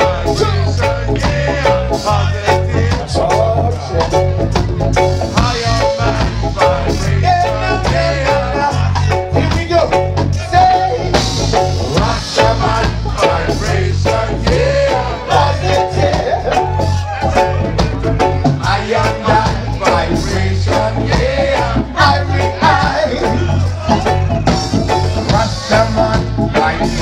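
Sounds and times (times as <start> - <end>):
person singing lead vocal: 0.0 - 4.5, 5.2 - 27.0
electric bass: 0.0 - 27.0
keyboard: 0.0 - 27.0.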